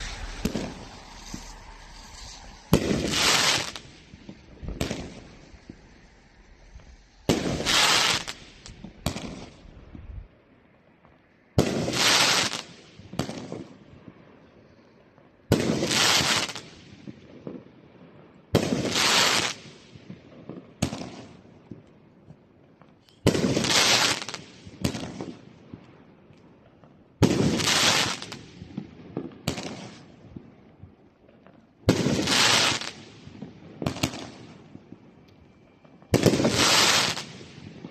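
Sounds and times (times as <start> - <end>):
firework blasts: 0.0 - 14.8, 15.5 - 37.9
small firework pops and crackles: 0.0 - 37.9.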